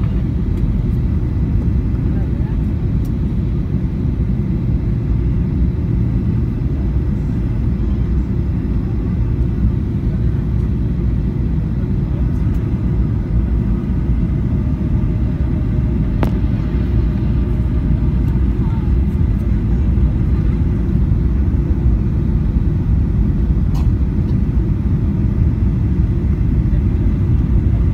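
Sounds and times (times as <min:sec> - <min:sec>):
jet cabin engine drone: 0:00.0 - 0:27.9.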